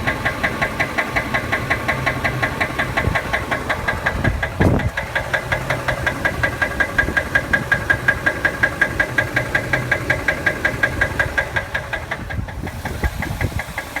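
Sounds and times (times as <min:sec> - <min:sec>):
engine running with rhythmic knock: 0:00.0 - 0:14.0.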